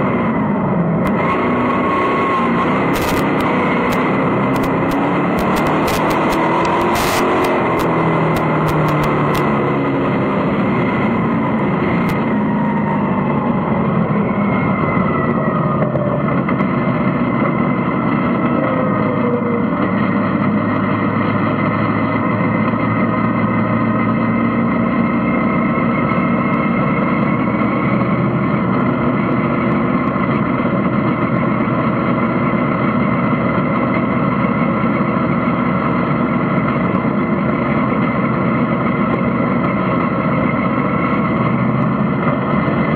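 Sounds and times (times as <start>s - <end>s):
race car engine running: 0.0s - 42.9s.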